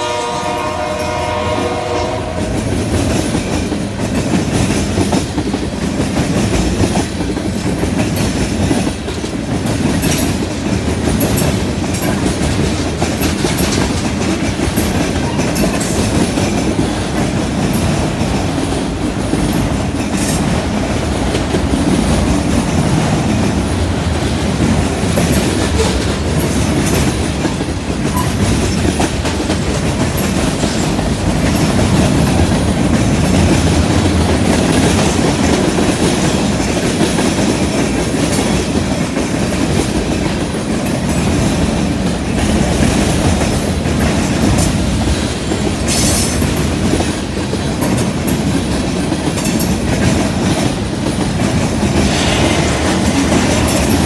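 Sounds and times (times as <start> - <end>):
train clickety-clack: 0.0 - 54.0
train wheels rumbling on rails: 0.0 - 54.0.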